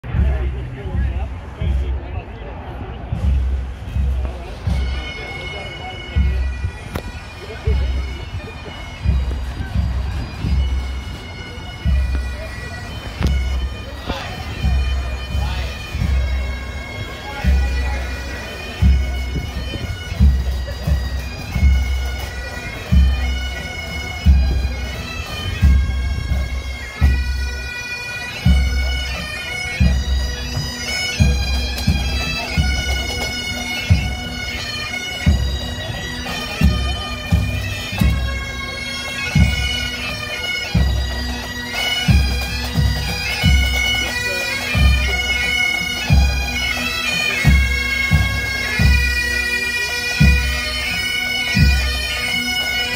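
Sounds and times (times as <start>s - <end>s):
drum beating: 2.8s - 27.6s, 28.4s - 49.6s
bagpipes playing melody: 3.1s - 52.9s.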